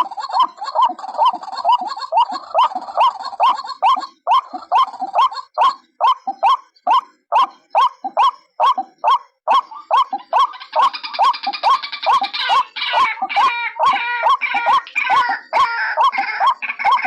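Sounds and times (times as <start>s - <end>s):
waterhen croaking calls: 0.0s - 17.0s.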